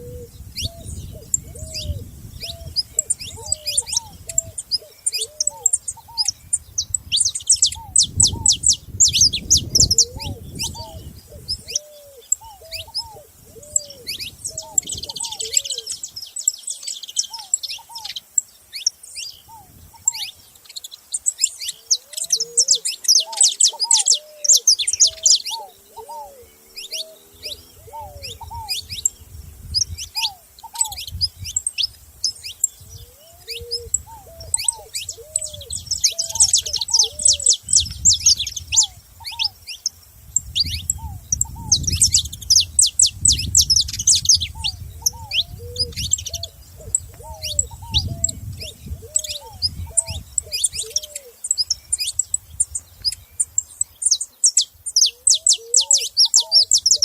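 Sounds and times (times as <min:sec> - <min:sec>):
finches chirping: 0:00.0 - 0:57.0.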